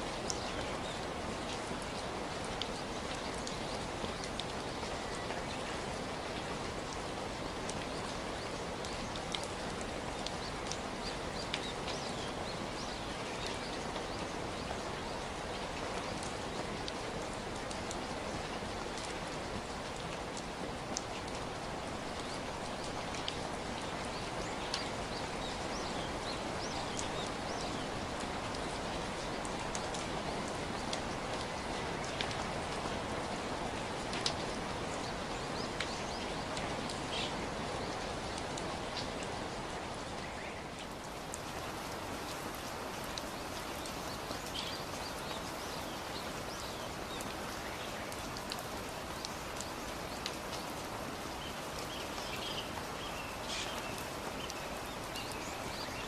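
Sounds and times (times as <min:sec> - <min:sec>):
steady rain falling: 0:00.0 - 0:56.0
raindrops ticking: 0:00.1 - 0:56.0.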